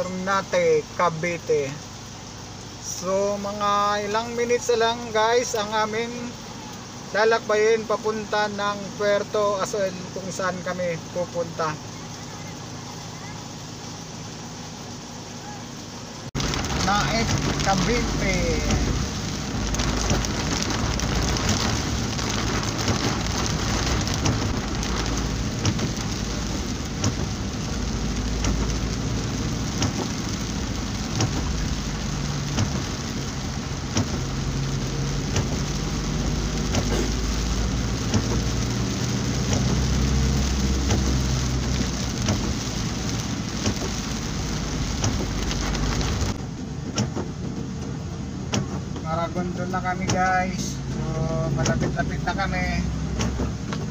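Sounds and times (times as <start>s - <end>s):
heavy rain on windshield: 0.0s - 53.9s
vehicle engine and road noise: 0.0s - 53.9s.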